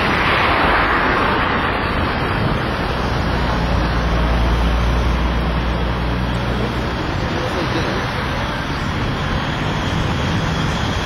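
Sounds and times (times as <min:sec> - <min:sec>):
road traffic noise: 0:00.0 - 0:11.0
vehicle engine low hum: 0:00.0 - 0:11.0.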